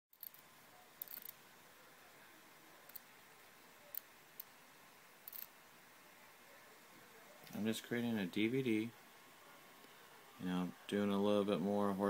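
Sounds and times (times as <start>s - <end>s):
faint steady hiss: 0.1s - 12.0s
laptop static crackles: 0.1s - 12.0s.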